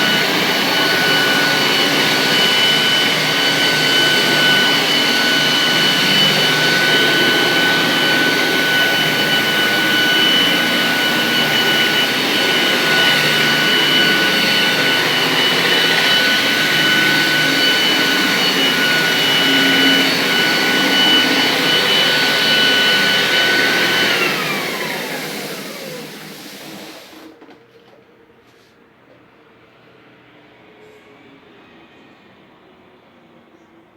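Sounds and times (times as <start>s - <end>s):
floor buffer high whine: 0.0s - 28.0s.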